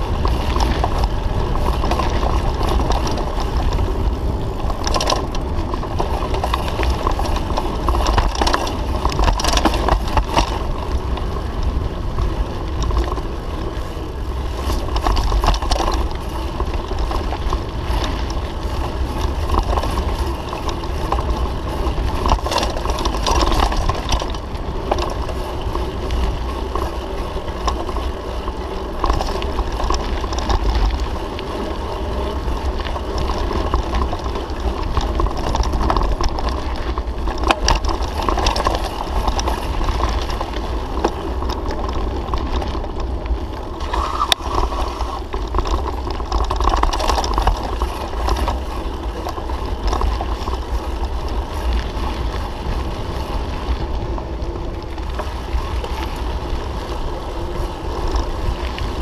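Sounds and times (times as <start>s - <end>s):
bike rattling over bumps: 0.0s - 59.0s
tyres crunching over gravel: 0.0s - 59.0s
wind buffeting microphone: 0.0s - 59.0s.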